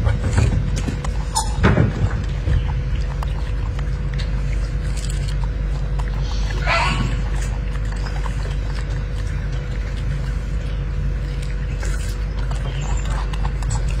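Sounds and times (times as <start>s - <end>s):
steady low rumble: 0.0s - 14.0s
monkey chewing clicks: 0.1s - 14.0s.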